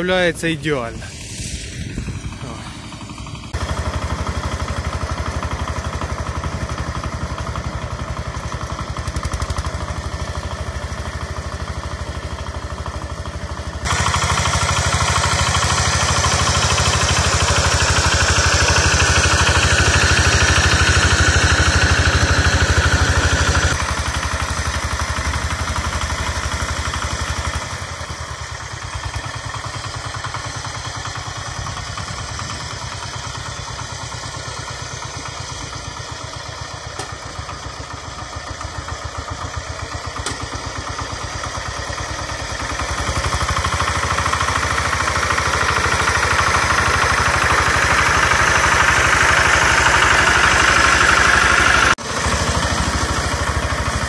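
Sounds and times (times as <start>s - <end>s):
diesel tractor engine running: 0.0s - 54.0s
tiller churning wet soil: 2.1s - 54.0s.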